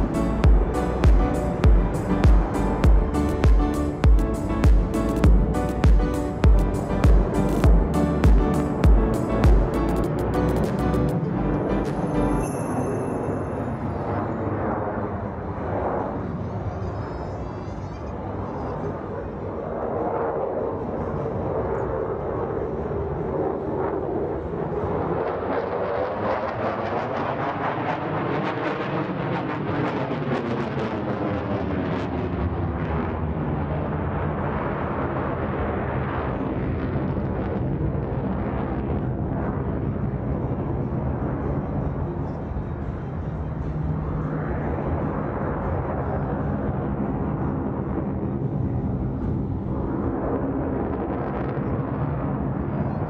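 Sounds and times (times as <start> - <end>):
jet engine roaring: 0.0 - 12.4, 13.3 - 53.0.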